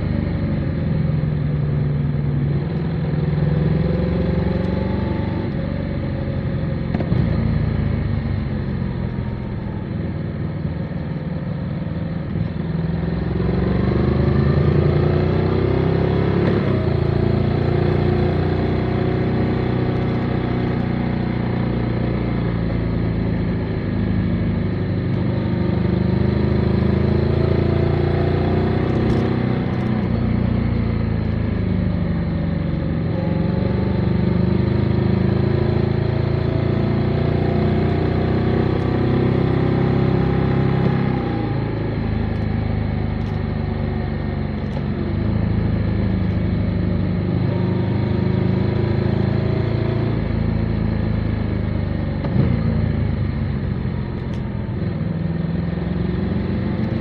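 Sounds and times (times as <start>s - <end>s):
motorcycle engine revving: 0.0s - 9.8s, 12.0s - 57.0s.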